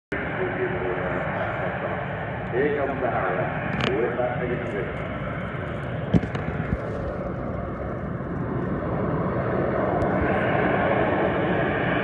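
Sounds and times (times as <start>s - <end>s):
jet engine rushing: 0.1s - 12.0s.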